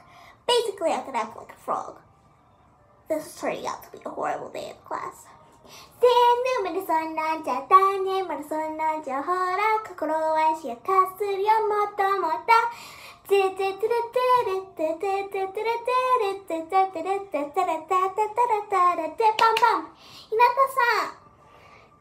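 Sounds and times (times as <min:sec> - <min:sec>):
girl singing alone: 0:03.0 - 0:21.2.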